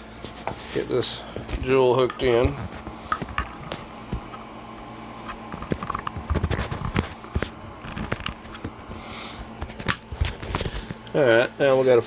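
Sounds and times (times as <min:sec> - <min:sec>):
electrical cords clicking and tapping: 0:00.2 - 0:04.4, 0:05.2 - 0:12.0.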